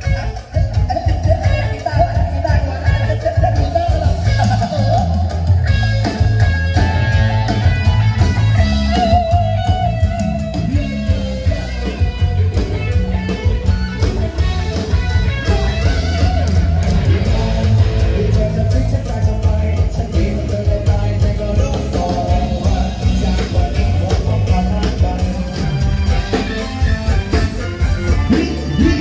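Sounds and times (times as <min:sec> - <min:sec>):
electric guitar melody: 0:00.0 - 0:29.0
heavy bass: 0:00.0 - 0:29.0
steady beat: 0:00.0 - 0:29.0.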